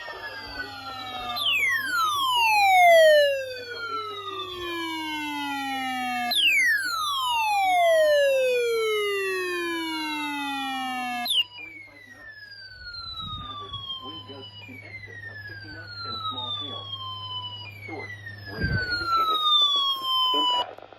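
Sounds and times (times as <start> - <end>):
siren-like tone falling in pitch: 0.0 - 20.7.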